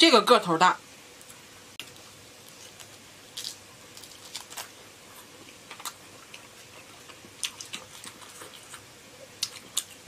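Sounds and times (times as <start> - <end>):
crunchy chewing: 1.2 - 10.0.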